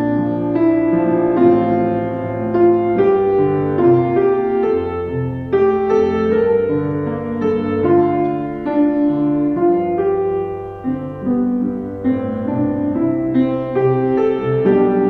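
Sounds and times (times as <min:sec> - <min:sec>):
slow solo keyboard music: 0:00.0 - 0:15.0.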